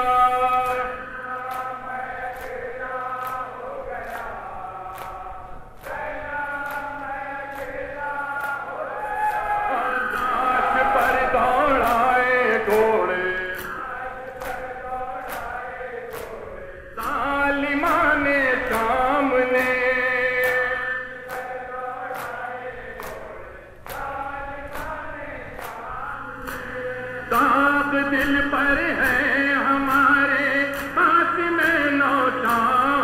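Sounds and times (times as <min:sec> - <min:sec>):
man chanting into a microphone: 0:00.0 - 0:09.0, 0:09.6 - 0:33.0
crowd of men chanting: 0:00.0 - 0:33.0.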